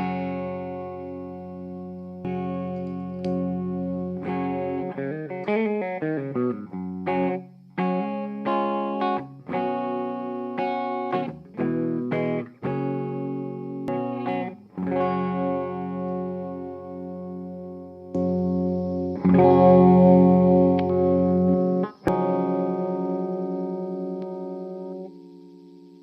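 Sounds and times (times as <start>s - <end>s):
electric guitar chords and notes: 0.0s - 26.0s.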